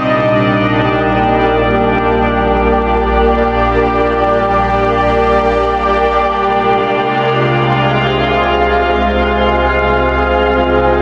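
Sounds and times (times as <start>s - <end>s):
music of slow held chords: 0.0s - 11.0s.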